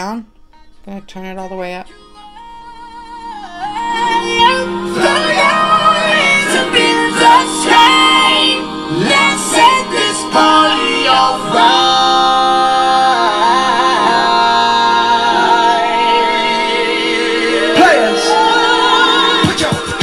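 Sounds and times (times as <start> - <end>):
song with wavering sung notes: 1.9 - 20.0
rising sweep: 4.0 - 20.0.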